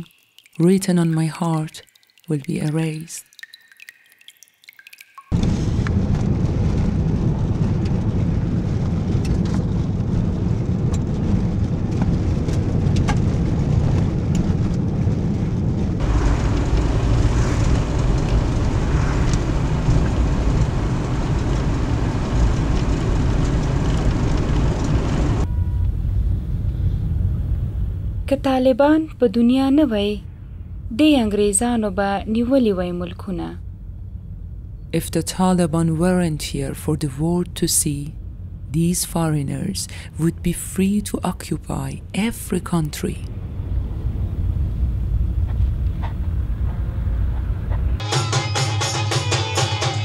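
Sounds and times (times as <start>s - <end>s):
vehicle rumbling: 5.3s - 48.0s.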